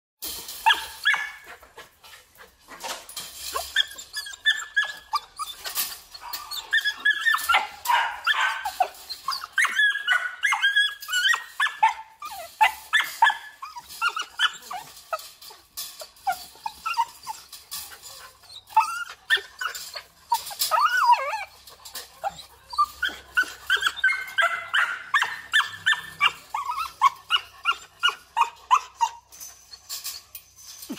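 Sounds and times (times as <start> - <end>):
dog barking and yelping: 0.5 - 30.0.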